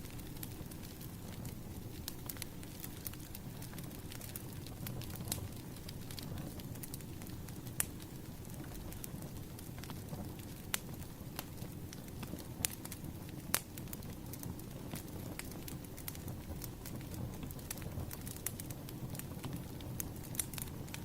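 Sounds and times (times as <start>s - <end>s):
low rumble of flames: 0.0s - 21.0s
wood fire crackling and popping: 0.0s - 21.0s.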